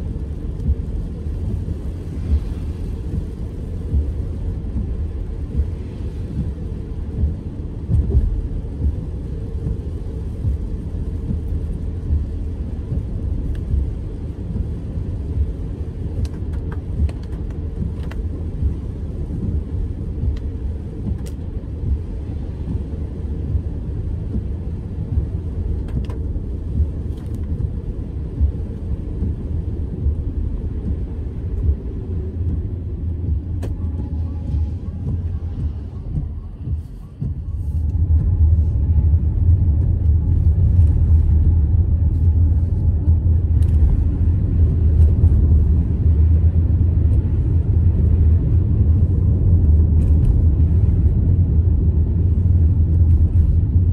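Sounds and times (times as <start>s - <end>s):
car road noise on wet road: 0.0s - 53.9s.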